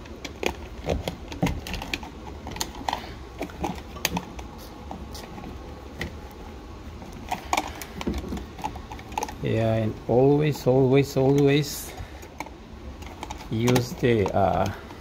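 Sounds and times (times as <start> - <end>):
wires clicking in plastic box: 0.0 - 6.3, 7.0 - 9.6, 10.5 - 15.0.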